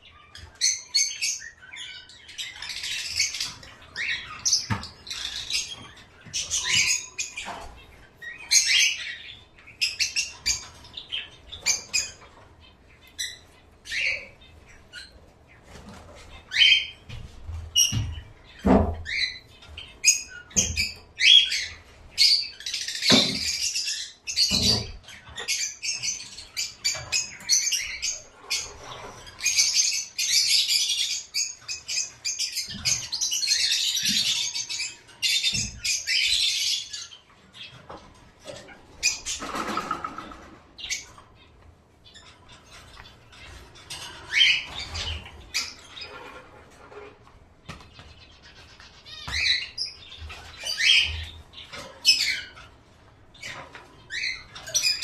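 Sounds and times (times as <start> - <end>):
caged birds chirping: 0.0 - 55.0.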